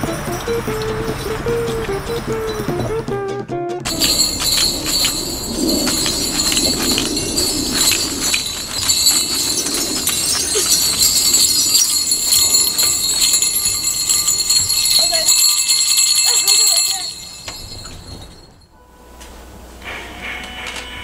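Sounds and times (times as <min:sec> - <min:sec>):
jingle bells shaken: 0:00.0 - 0:03.1, 0:03.9 - 0:18.7.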